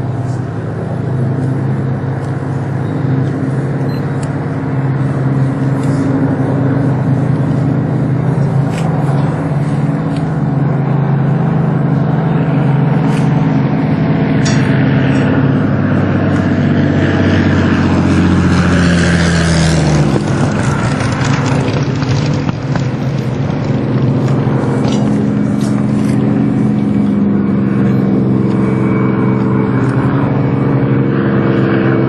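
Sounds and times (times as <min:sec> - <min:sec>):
propeller plane engine droning: 0:00.0 - 0:32.0.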